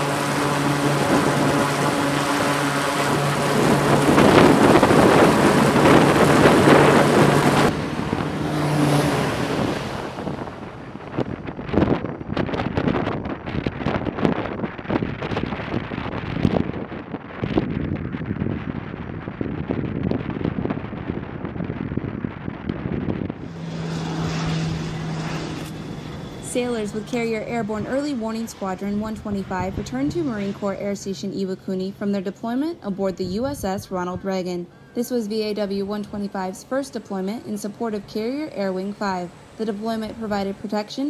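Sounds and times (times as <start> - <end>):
rush of prop wash and wind: 0.0 - 31.4, 33.0 - 41.0
distant turboprop aircraft drone: 0.0 - 41.0
propeller hum: 0.0 - 41.0.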